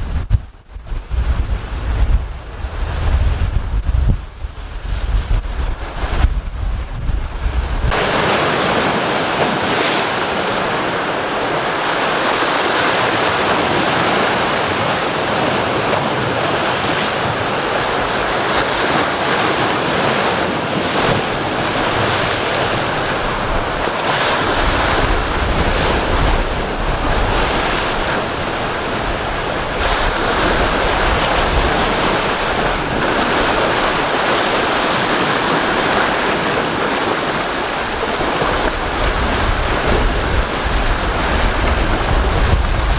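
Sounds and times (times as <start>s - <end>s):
rough sea and surf: 0.0s - 42.9s
strong wind buffeting microphone: 0.0s - 42.9s.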